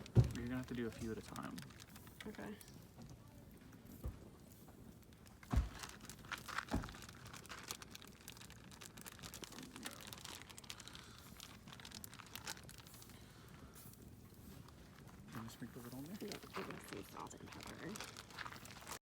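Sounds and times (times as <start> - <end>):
skewers crackling and crinkling: 0.0 - 19.0.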